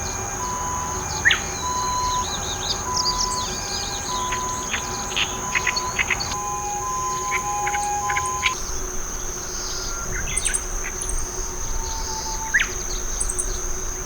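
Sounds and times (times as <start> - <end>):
bird singing chirping notes: 0.0 - 13.8
high-pitched insect whine: 0.0 - 14.0
low pulsing tone: 0.1 - 14.0.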